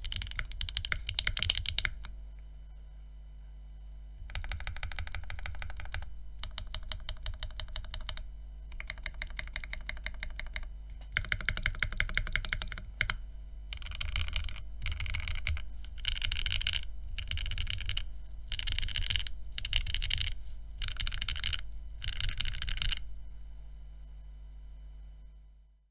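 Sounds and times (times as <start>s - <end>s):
low electrical buzz: 0.0s - 25.9s.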